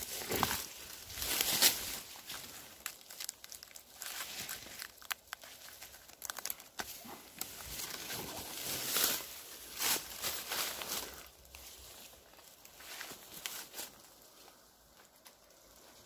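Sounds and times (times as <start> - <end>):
leaf litter rustling and crackling: 0.0 - 16.0.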